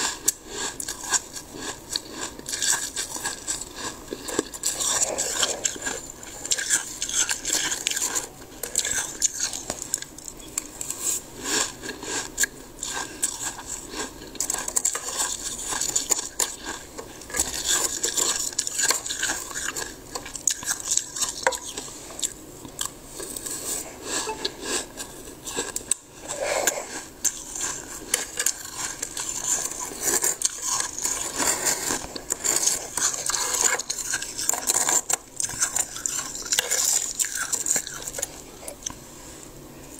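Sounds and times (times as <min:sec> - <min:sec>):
spoon scraping freezer frost: 0:00.0 - 0:22.4, 0:23.2 - 0:38.9.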